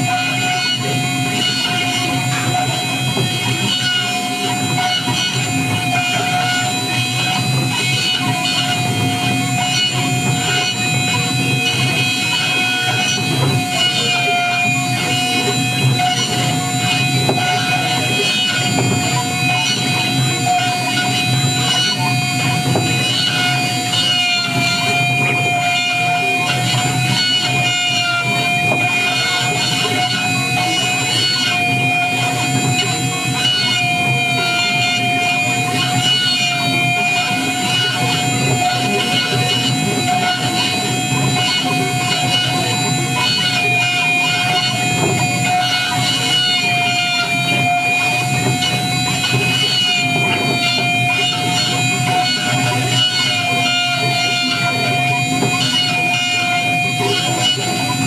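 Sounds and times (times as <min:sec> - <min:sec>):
cutter engraving metal: 0:00.0 - 0:58.0
spindle high whine: 0:00.0 - 0:58.0.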